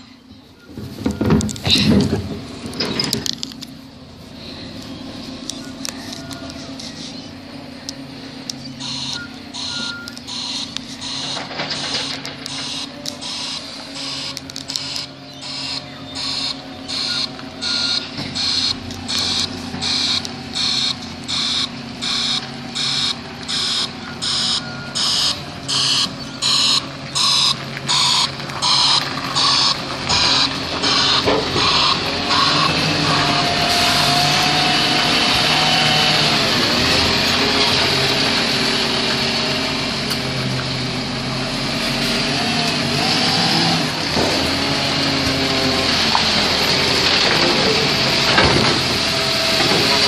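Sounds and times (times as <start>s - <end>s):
diesel engine running: 0.0s - 50.0s
truck reversing alarm: 4.4s - 50.0s.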